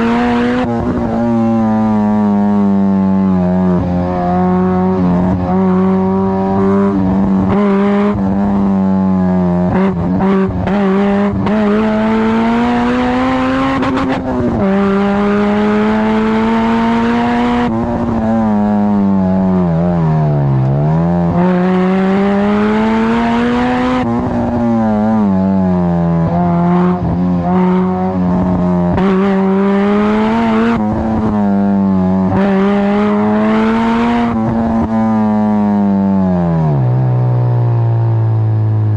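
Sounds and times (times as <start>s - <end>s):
car engine revving: 0.0s - 37.6s.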